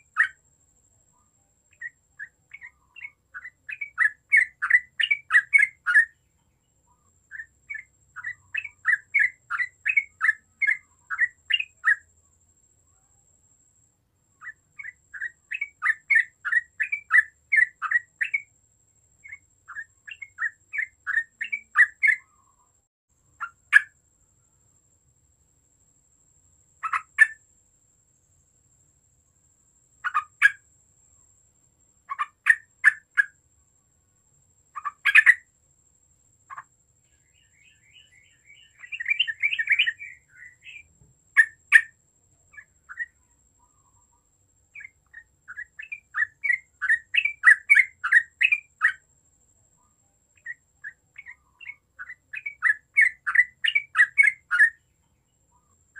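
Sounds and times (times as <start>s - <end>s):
bird singing: 0.0s - 24.8s, 26.2s - 27.5s, 29.8s - 35.6s, 36.2s - 55.9s.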